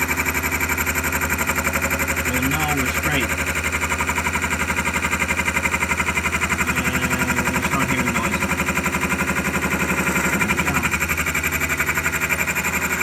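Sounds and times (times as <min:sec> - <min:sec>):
lathe cutting with pulsing chatter: 0:00.0 - 0:13.0.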